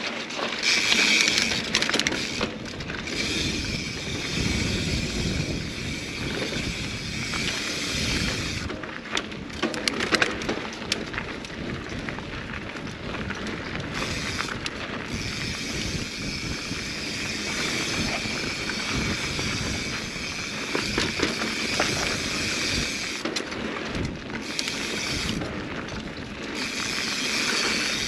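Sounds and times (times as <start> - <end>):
bike clattering over rough ground: 0.0 - 28.0
tyre and wind rush: 0.6 - 9.6, 10.4 - 28.0.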